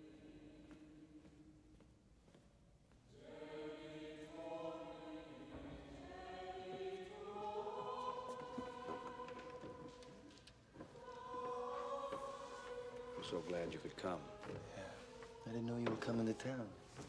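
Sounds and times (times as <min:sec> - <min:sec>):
choir singing held chant-like notes: 0:00.0 - 0:01.1, 0:03.1 - 0:17.0.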